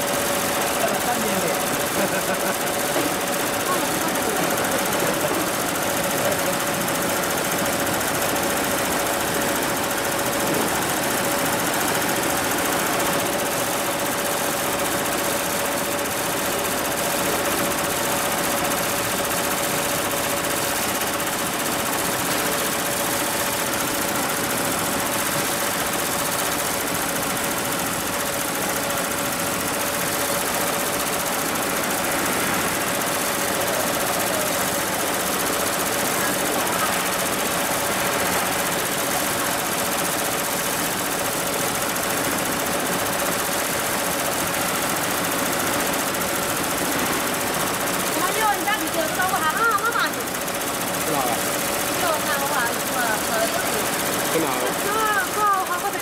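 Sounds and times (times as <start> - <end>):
embroidery machine running: 0.0 - 56.0.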